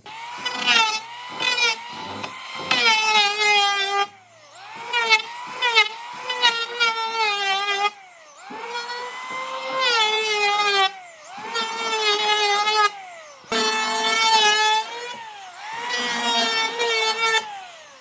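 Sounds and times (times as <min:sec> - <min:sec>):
power tool motor whine: 0:00.0 - 0:18.0.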